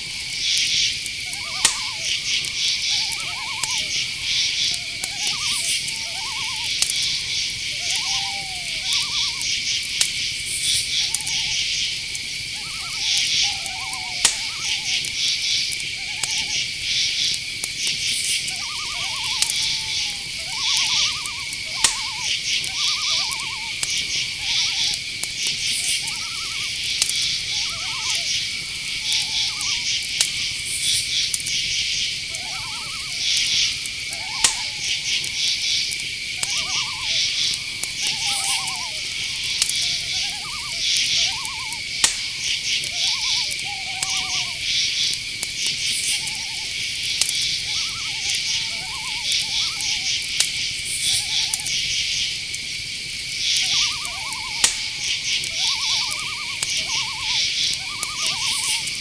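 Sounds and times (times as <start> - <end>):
crickets trilling: 0.0 - 59.0
insects chirping: 0.0 - 59.0
small owl calling: 0.0 - 59.0.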